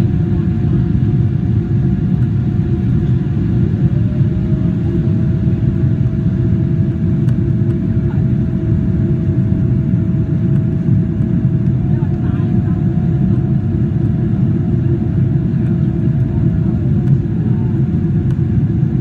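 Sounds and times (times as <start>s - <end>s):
airplane cabin rumble: 0.0s - 19.0s.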